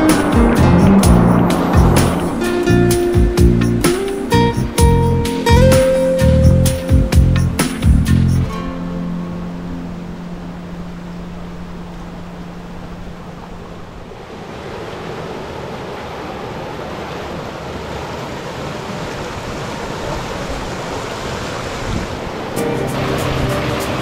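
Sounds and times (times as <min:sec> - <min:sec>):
water rushing over rocks: 0:00.0 - 0:07.0, 0:08.6 - 0:24.0.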